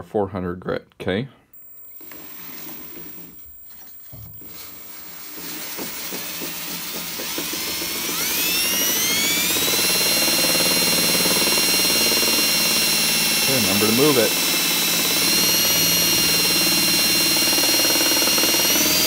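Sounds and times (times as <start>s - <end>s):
cordless drill whining: 1.6s - 19.0s.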